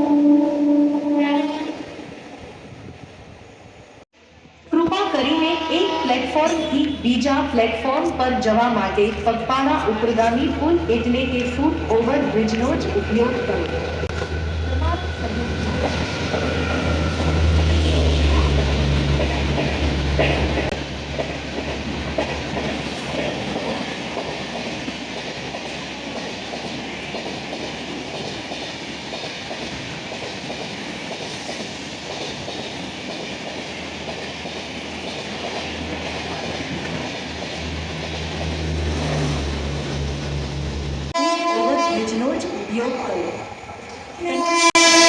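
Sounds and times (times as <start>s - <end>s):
train passing: 0.0s - 45.0s.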